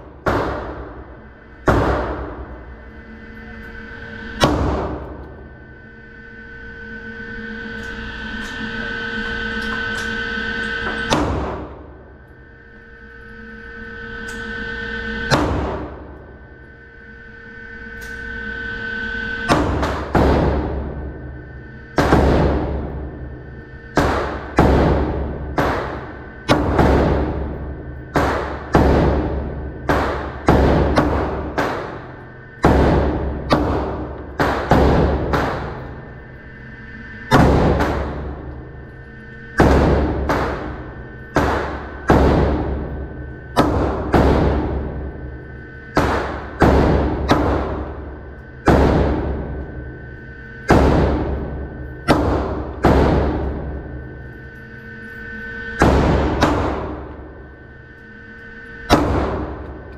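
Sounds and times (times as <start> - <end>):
pistol shot echoing indoors: 0.0 - 5.5, 7.8 - 14.6, 15.2 - 18.4, 19.1 - 59.9
steady hum: 0.0 - 59.9.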